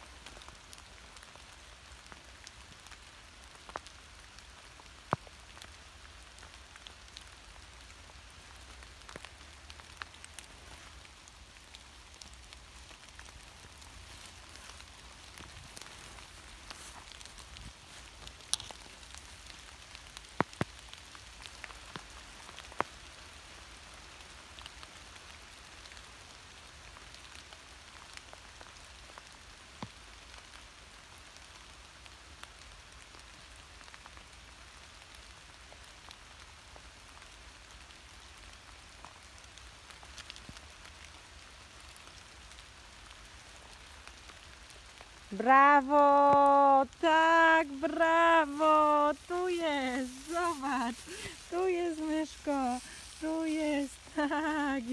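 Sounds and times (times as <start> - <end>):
light rain patter: 0.0 - 54.9.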